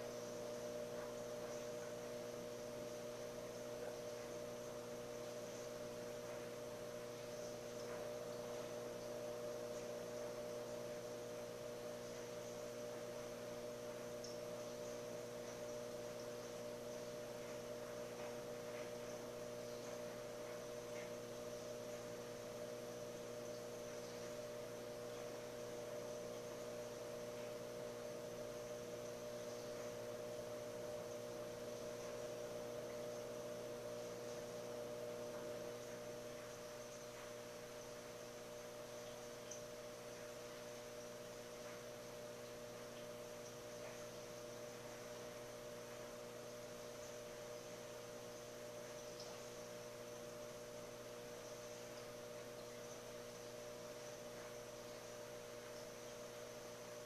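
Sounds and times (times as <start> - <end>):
aquarium equipment humming: 0.0 - 57.0.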